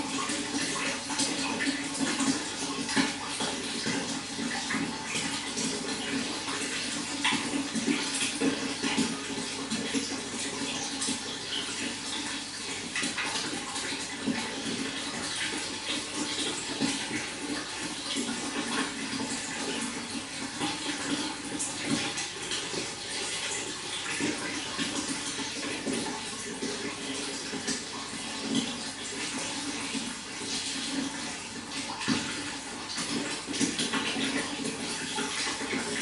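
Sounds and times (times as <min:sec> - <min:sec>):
running water splashing: 0:00.0 - 0:36.0.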